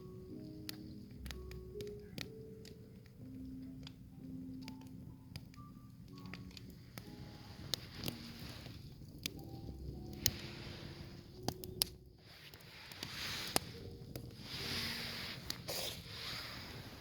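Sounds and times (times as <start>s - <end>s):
fire hissing: 0.0s - 17.0s
fire popping: 0.0s - 17.0s
wood fire crackling: 0.0s - 17.0s.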